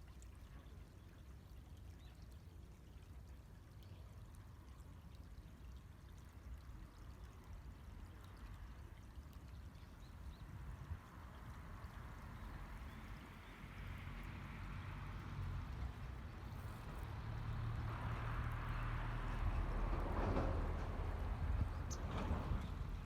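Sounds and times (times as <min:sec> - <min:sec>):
stream trickling and splashing: 0:00.0 - 0:23.0.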